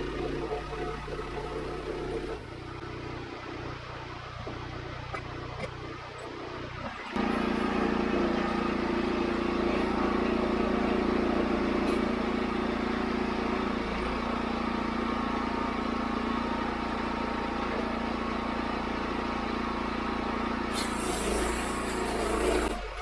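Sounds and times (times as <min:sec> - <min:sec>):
band sawmill engine humming: 0:00.0 - 0:23.0.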